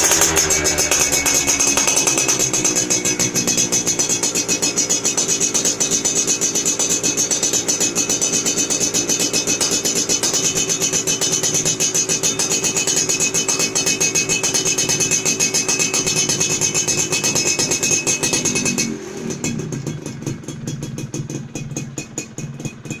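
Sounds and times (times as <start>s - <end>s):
two-stroke motorcycle exhaust: 0.0s - 23.0s.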